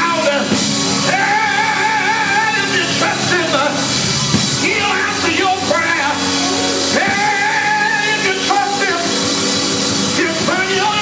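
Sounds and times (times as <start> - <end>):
man singing into a microphone: 0.0 - 3.9, 4.6 - 9.2, 10.2 - 11.0
instrumental backing: 0.0 - 11.0.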